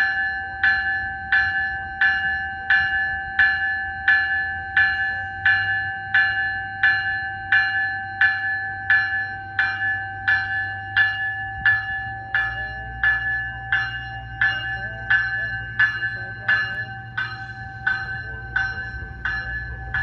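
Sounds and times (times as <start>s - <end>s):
train bell ringing: 0.0s - 20.0s.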